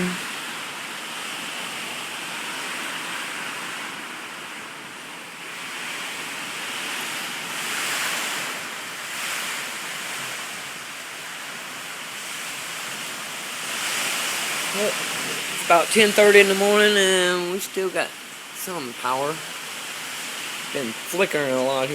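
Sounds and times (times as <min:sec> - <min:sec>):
gusting wind: 0:00.0 - 0:21.9
heavy rain: 0:00.0 - 0:21.9.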